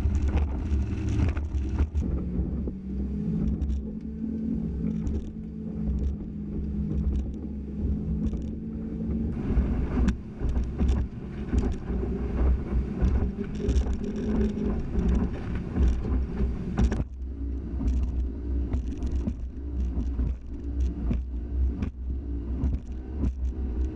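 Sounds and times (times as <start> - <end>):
hull thumping on waves: 0.0 - 23.9
motorboat engine drone: 0.0 - 23.9.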